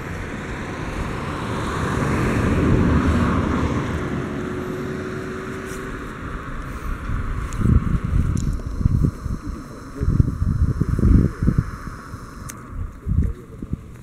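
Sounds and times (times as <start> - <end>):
car passing: 0.0 - 13.9.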